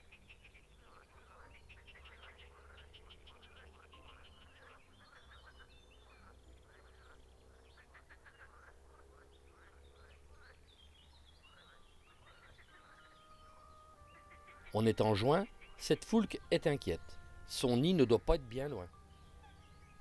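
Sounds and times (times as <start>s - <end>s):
frogs croaking: 0.0s - 20.0s.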